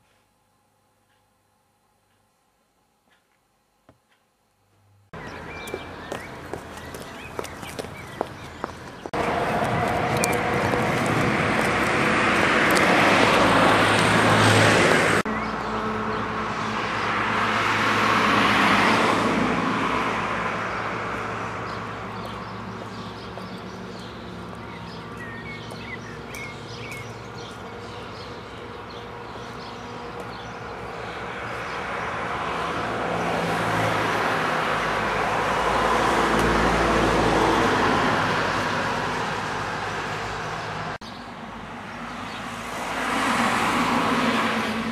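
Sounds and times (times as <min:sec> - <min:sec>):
cars passing: 0:05.1 - 0:44.9.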